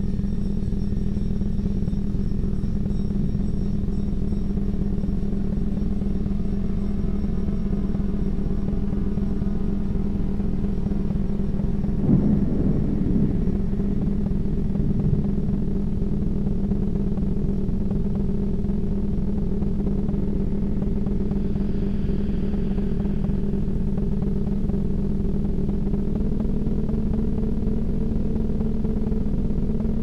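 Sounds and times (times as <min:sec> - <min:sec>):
low rumble like road traffic: 0:03.8 - 0:30.0.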